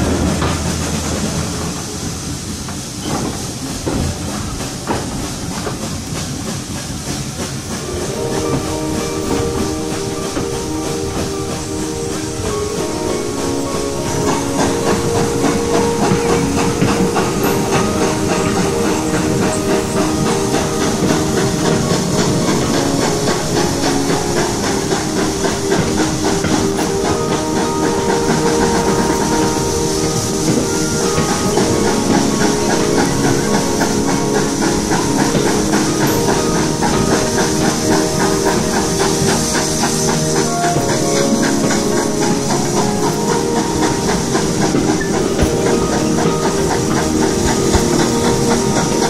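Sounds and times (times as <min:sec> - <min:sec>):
locomotive exhaust beats: 0:00.0 - 0:49.0
steam hiss and rushing air: 0:00.0 - 0:49.0
wheels clattering on rails: 0:00.0 - 0:49.0.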